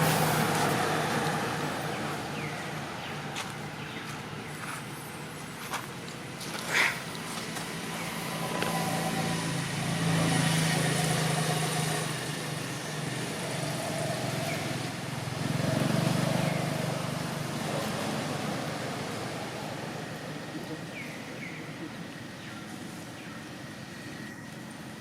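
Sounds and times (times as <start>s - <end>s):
vehicle engine running: 0.0s - 22.3s.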